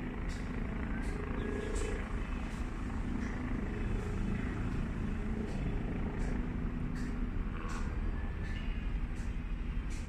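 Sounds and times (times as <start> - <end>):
distant helicopter hovering: 0.0 - 10.0.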